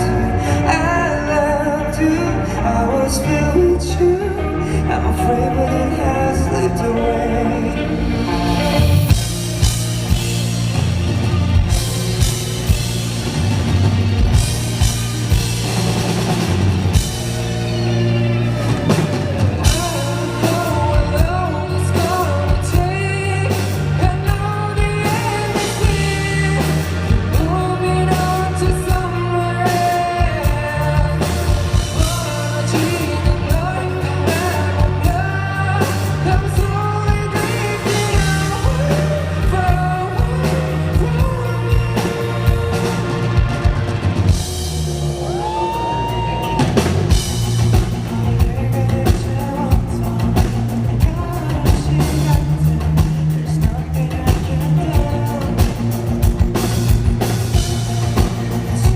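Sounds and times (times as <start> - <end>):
person singing: 0.0 - 13.3, 14.3 - 44.4, 45.1 - 58.9
rock band playing live: 0.0 - 58.9.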